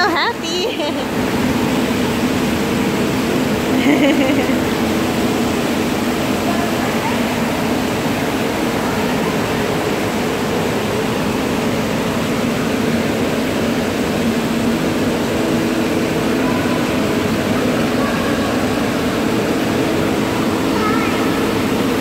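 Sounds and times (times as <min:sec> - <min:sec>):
air handling roar: 0:00.0 - 0:22.0
faint hum: 0:00.0 - 0:22.0
running water: 0:00.0 - 0:22.0.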